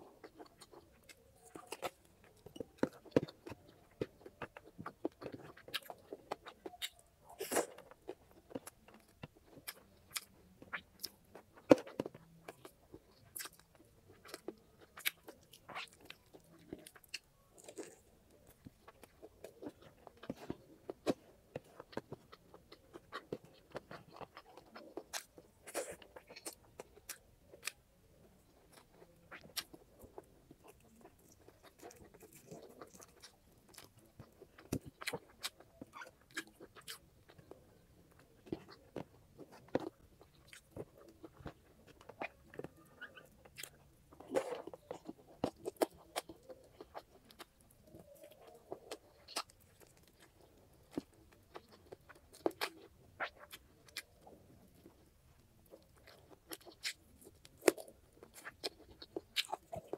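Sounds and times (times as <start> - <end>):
chewing and biting food: 0.0 - 59.9.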